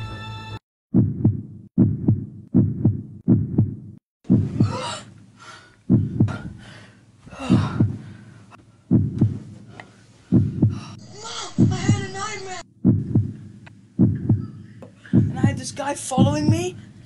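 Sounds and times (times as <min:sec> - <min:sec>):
heartbeat thumps: 0:00.9 - 0:04.9, 0:05.8 - 0:06.7, 0:07.3 - 0:08.2, 0:08.9 - 0:17.0.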